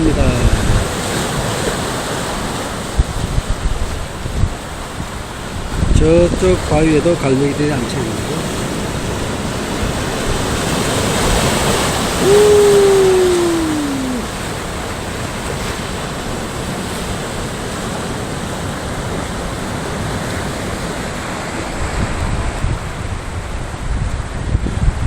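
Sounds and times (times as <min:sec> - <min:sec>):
sea surf washing on shore: 0:00.0 - 0:25.0.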